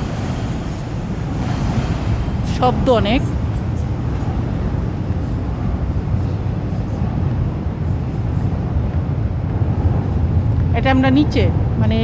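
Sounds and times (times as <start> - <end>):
low rumble of city noise: 0.0 - 12.0.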